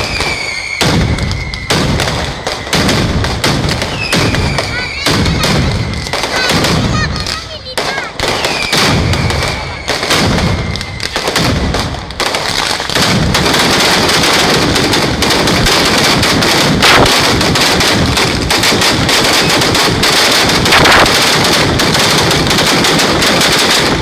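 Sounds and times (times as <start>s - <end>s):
firecracker barrage: 0.0s - 24.0s
heavy bangs: 0.0s - 24.0s.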